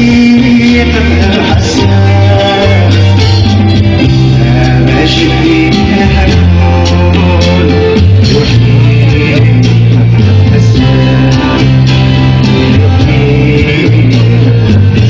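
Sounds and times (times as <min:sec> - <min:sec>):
live band instrumental: 0:00.0 - 0:15.0.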